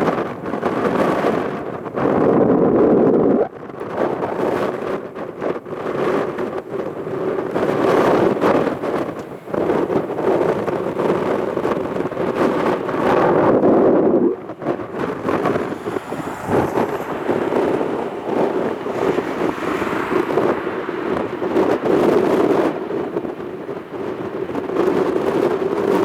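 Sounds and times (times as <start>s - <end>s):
wind buffeting microphone: 0.0s - 26.0s
jet engines roaring on take-off: 4.1s - 26.0s.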